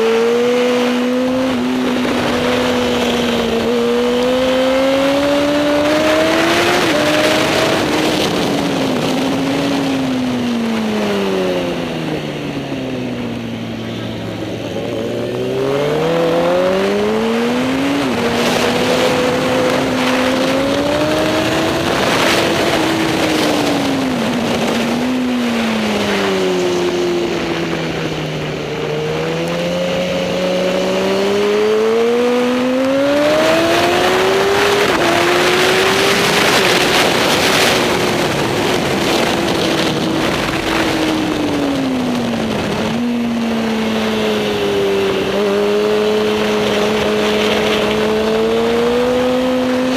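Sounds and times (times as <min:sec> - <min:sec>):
racing motorcycle engine revving: 0:00.0 - 0:49.9.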